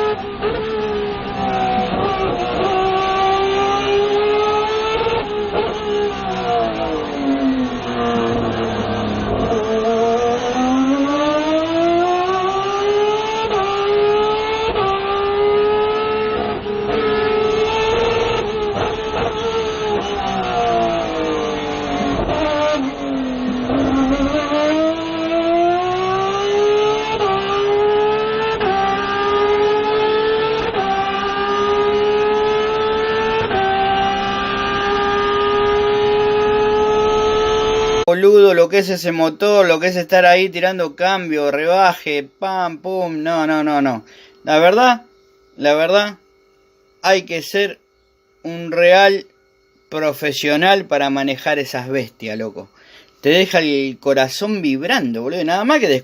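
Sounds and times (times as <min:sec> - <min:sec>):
race car engine accelerating: 0:00.0 - 0:47.0.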